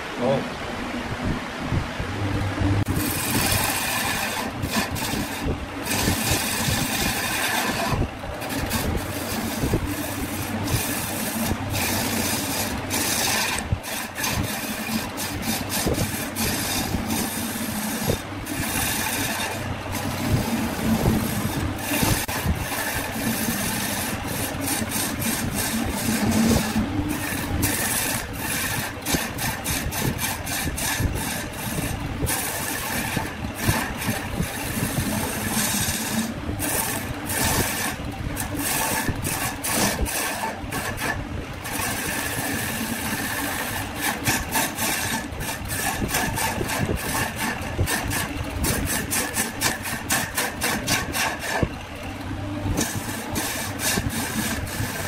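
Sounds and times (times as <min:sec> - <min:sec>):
lathe humming: 0:00.0 - 0:55.0
tool scraping spinning wood: 0:01.9 - 0:55.0.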